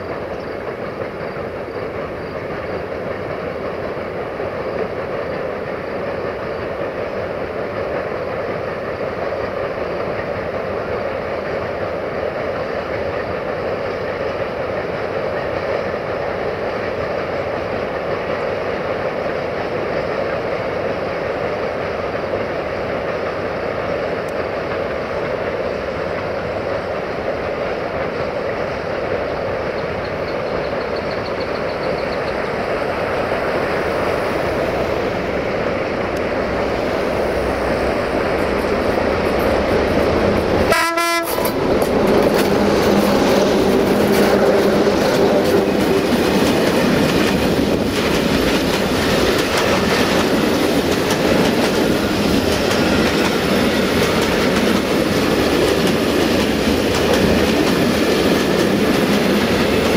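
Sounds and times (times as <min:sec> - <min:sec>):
diesel locomotive engines: 0:00.0 - 0:59.9.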